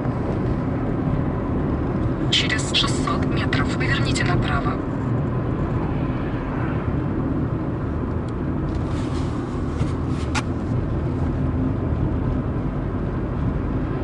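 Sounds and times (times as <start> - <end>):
car cabin road noise: 0.0 - 14.0.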